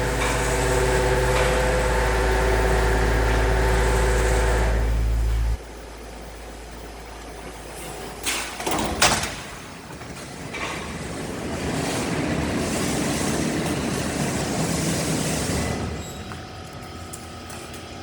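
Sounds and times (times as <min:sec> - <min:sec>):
machine humming: 0:00.0 - 0:18.0
mechanical running noise: 0:00.0 - 0:18.0.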